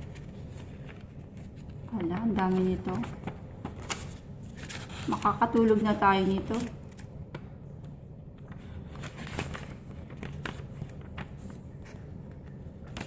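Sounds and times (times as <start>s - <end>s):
paper pages flipping: 0.0s - 13.0s
steady low hum: 0.0s - 13.0s.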